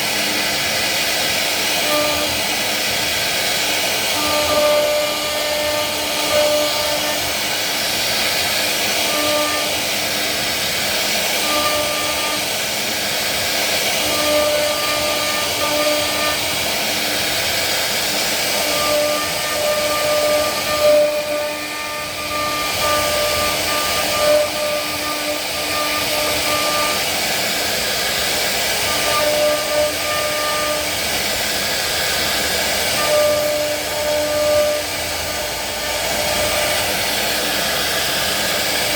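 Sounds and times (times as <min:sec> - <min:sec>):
wood router cutting wood: 0:00.0 - 0:38.9.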